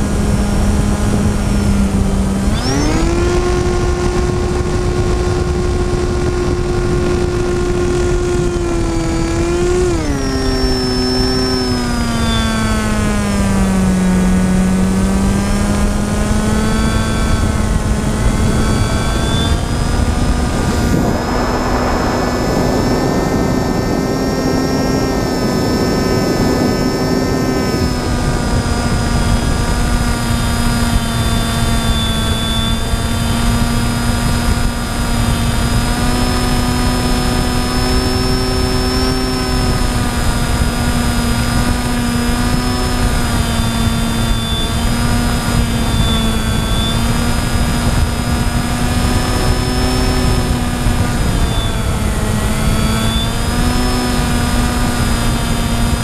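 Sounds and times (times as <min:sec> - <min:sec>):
drone motor and propeller whine: 0:00.0 - 0:56.0
wind noise: 0:00.0 - 0:56.0.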